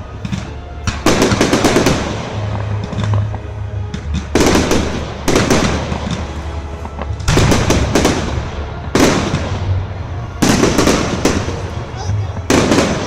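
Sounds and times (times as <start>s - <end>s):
fireworks crackling bangs: 0.0s - 13.0s.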